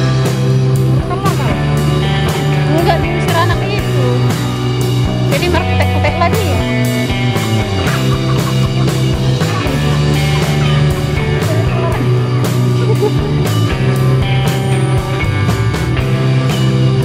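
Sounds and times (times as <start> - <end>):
rock music with drum beat: 0.0 - 17.0.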